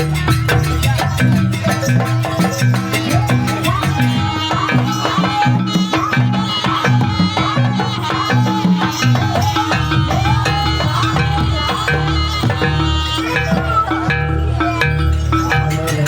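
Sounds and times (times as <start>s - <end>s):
drums playing steady rhythm: 0.0s - 16.0s.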